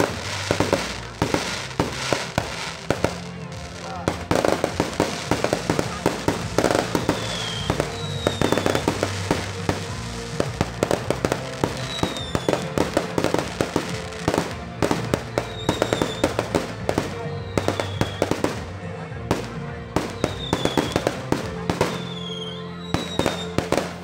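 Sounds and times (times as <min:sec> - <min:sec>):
fireworks bursting and crackling: 0:00.0 - 0:24.0
music from sound system: 0:00.0 - 0:24.0.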